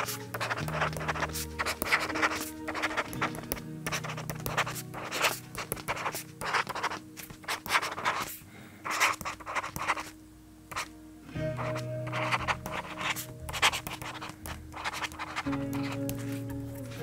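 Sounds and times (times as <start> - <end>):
stylus scratching on screen: 0.0 - 10.9, 11.6 - 17.0.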